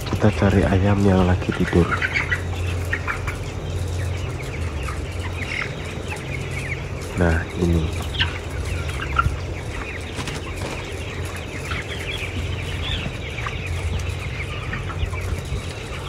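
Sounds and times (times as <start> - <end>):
chickens clucking and chirping: 0.0 - 16.0
steady low hum: 0.0 - 16.0.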